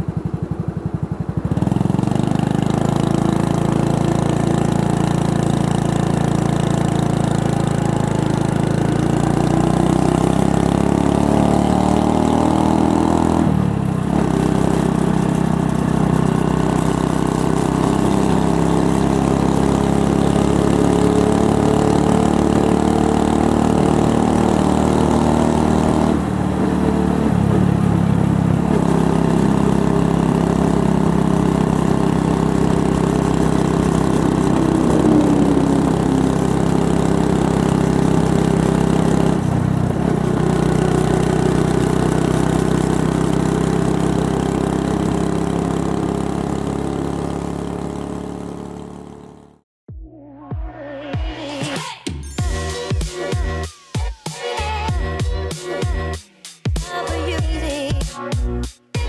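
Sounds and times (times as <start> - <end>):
motorcycle engine while riding: 0.0 - 49.7.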